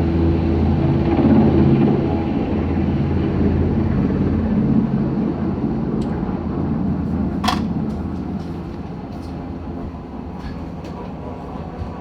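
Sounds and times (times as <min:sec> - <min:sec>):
helicopter turbine and rotor rumble: 0:00.0 - 0:12.0.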